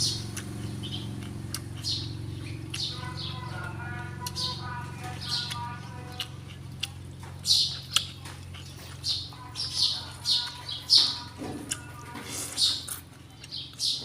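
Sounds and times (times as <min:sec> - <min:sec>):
bird chirping: 0:00.0 - 0:14.0
steady low hum: 0:00.0 - 0:14.0.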